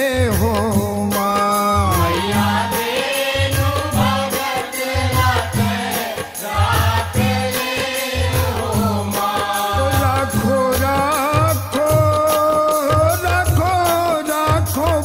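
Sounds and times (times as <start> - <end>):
chorus singing devotional song: 0.0 - 15.0
drums keeping steady beat: 0.0 - 15.0.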